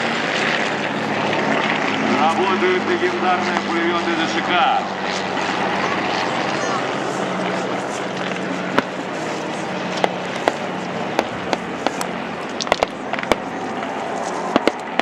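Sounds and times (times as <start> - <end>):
steady low drone: 0.0 - 15.0.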